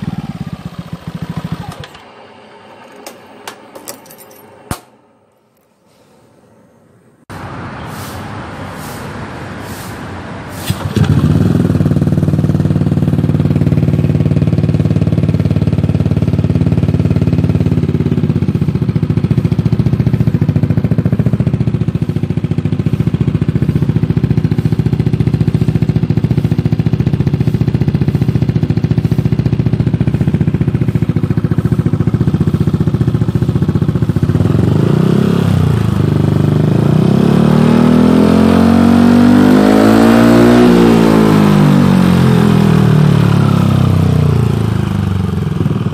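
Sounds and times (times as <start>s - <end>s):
vehicle engine cranking and idling: 0.0s - 5.7s, 10.5s - 36.9s, 38.8s - 45.9s.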